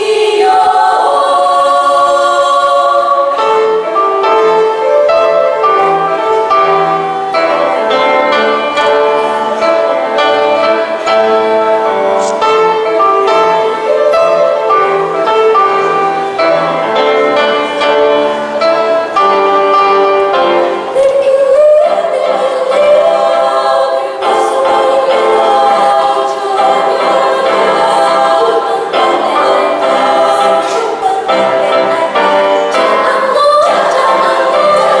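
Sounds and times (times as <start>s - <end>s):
instrumental accompaniment: 0.0s - 35.0s
violin melody: 0.0s - 35.0s.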